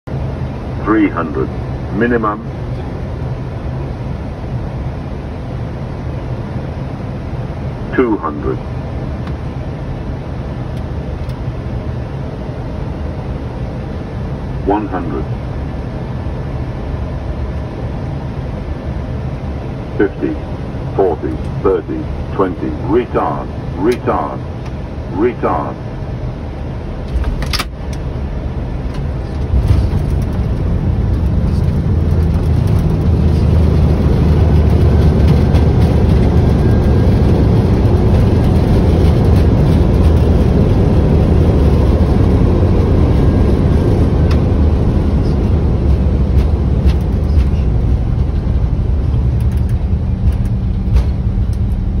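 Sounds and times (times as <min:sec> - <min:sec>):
low rumble of engines and wheels: 0:00.0 - 0:52.0.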